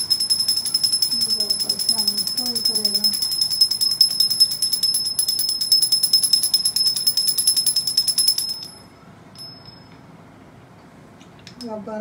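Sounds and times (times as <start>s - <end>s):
hand bell ringing rapidly: 0.0s - 9.8s.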